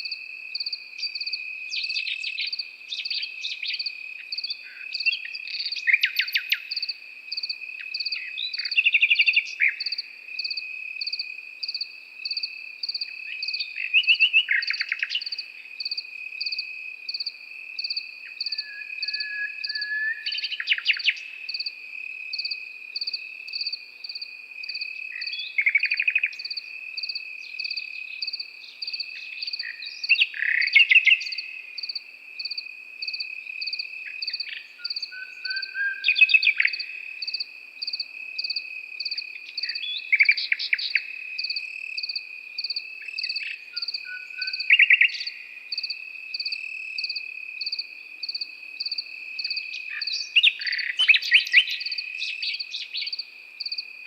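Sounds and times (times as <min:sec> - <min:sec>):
continuous high insect trill: 0:00.0 - 0:54.0
crickets chirping: 0:00.0 - 0:54.0
nightingale singing: 0:00.0 - 0:54.0.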